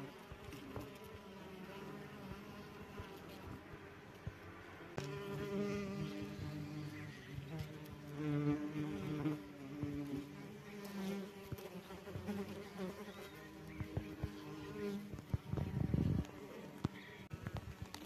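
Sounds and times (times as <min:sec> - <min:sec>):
wasps buzzing in flight: 0:00.0 - 0:18.0.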